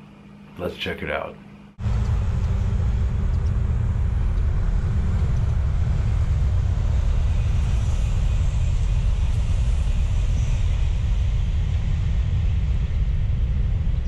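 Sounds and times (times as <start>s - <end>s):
high-speed train passing: 1.8s - 14.0s
wind rumble on microphone: 1.8s - 14.0s.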